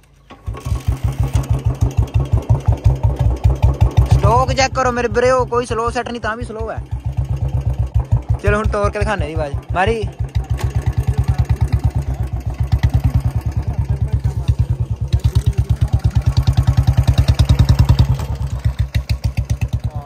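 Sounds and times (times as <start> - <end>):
motorcycle engine thumping: 0.1 - 20.0.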